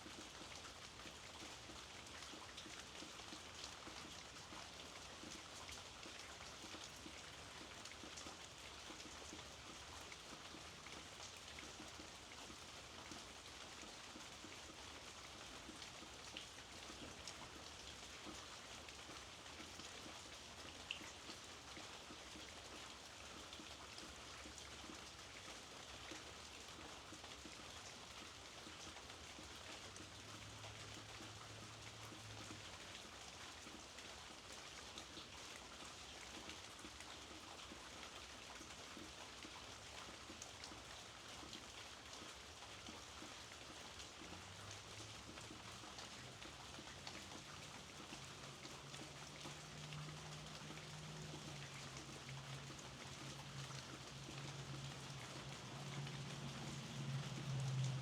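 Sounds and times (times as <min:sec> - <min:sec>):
light rain ticking on a surface: 0:00.0 - 0:58.0.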